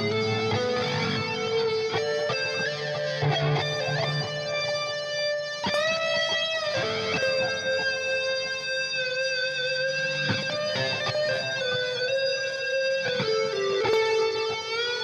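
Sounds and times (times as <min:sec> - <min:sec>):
electric guitar single notes: 0:00.0 - 0:15.0.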